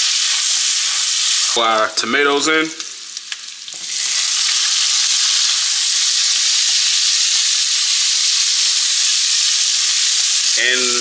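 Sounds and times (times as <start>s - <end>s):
tomatoes sizzling in frying pan: 0.0s - 11.0s.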